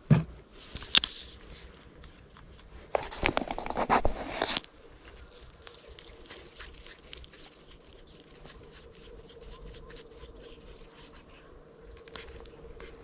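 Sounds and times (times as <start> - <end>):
faint steady hum: 0.0 - 13.0
fishing gear clicks and rustles: 0.6 - 13.0.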